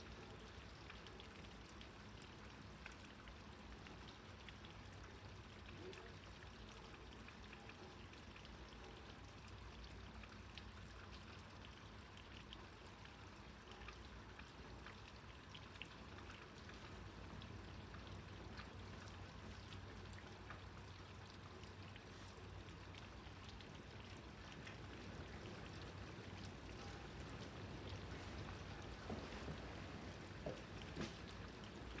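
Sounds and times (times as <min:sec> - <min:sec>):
low steady hum: 0:00.0 - 0:32.0
rain drops pattering: 0:00.0 - 0:32.0
water drips: 0:00.0 - 0:32.0
water trickling: 0:00.0 - 0:32.0.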